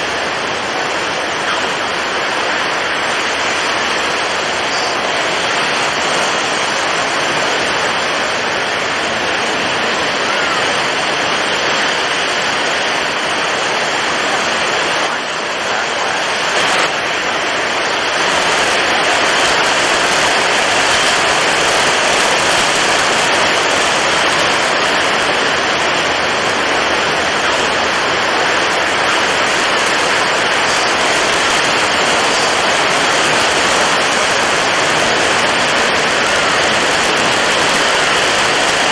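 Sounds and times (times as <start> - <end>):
strong wind blowing: 0.0 - 38.9
waves breaking: 0.0 - 38.9.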